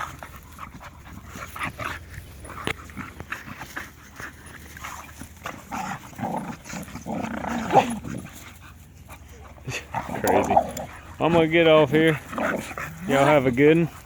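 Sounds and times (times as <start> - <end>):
dogs scuffling and rustling: 0.0 - 14.0.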